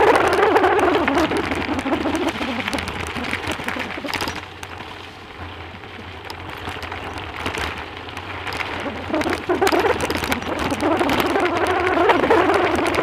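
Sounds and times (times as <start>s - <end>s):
bicycle tyres on stony track: 0.0s - 13.0s
wavering hum: 0.0s - 13.0s.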